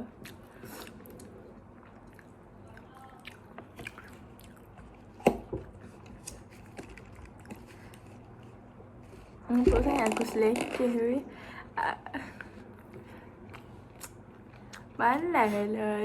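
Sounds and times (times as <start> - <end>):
people chewing food: 0.0 - 10.8, 11.4 - 15.6.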